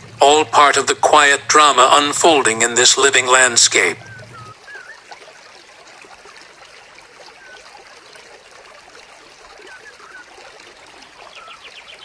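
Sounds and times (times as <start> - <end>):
water gurgling: 0.0 - 12.0
water trickling: 0.0 - 12.0.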